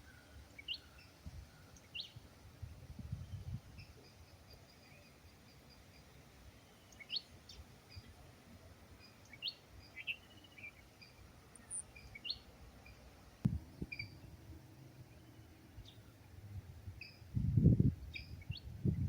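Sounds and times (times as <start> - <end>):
forest birds chirping: 0.0 - 19.0.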